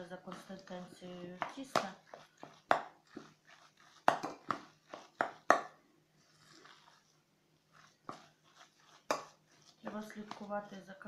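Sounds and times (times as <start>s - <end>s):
hand squelching wet mixture: 0.0s - 11.0s.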